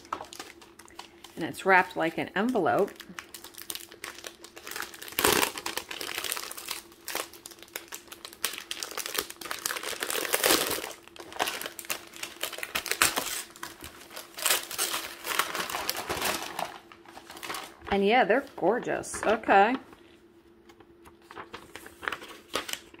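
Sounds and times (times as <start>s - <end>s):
paper wrapping crinkling: 0.0s - 19.4s, 21.0s - 23.0s.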